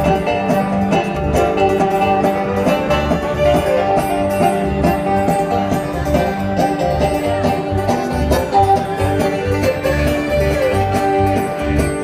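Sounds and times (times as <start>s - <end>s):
banjo: 0.0s - 12.0s
bluegrass band playing: 0.0s - 12.0s
fiddle: 0.0s - 12.0s.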